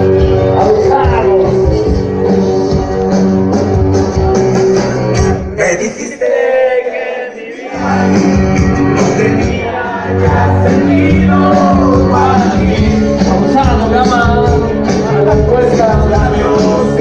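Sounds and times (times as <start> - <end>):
loud dance music with singing: 0.0 - 2.6, 4.6 - 17.0.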